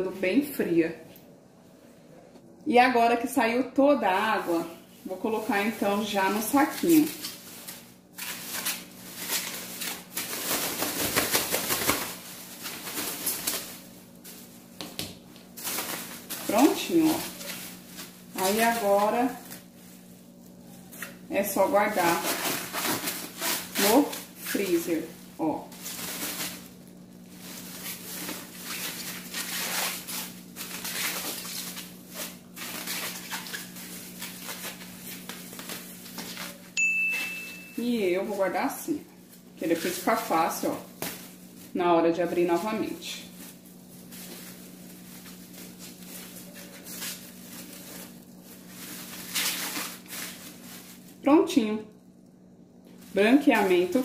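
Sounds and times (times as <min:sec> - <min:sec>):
faint steady hum: 0:00.0 - 0:54.0
plastic bag crinkling: 0:04.0 - 0:54.0.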